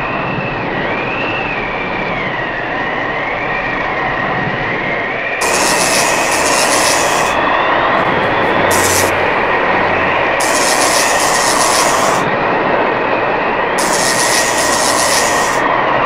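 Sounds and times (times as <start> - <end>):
high wind whistle: 0.0 - 16.0.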